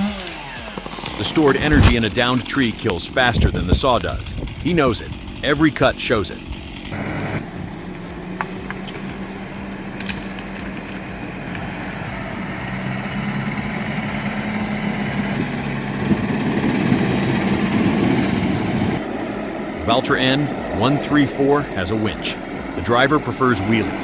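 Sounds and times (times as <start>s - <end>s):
engine running low pitch: 0.0s - 24.0s.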